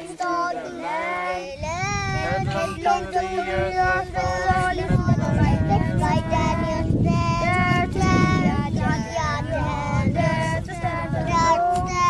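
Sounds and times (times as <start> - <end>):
children and woman singing: 0.0 - 12.0.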